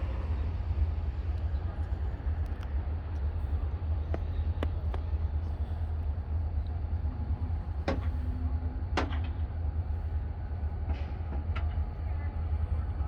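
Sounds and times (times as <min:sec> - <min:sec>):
diesel locomotives rumbling: 0:00.0 - 0:13.0.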